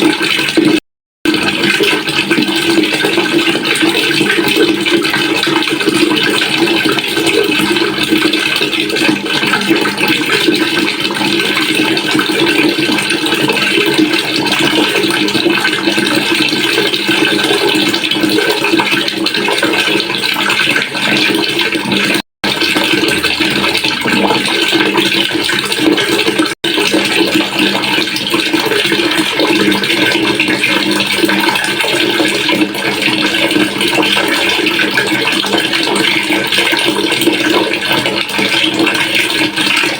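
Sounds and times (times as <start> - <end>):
water pouring into a pail: 0.0 - 39.9.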